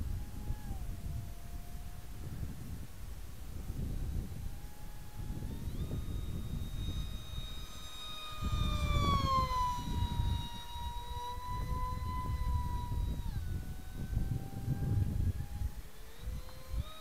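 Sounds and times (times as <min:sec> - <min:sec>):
electric motor and propeller whine: 0:00.0 - 0:17.0
wind on microphone: 0:00.0 - 0:17.0.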